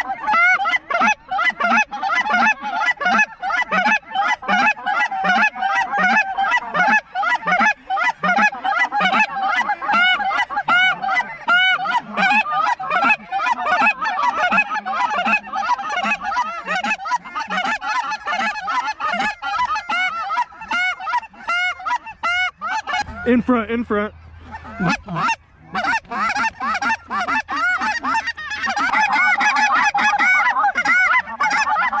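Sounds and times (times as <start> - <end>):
geese honking: 0.0 - 32.0
goose calls being blown: 0.0 - 32.0.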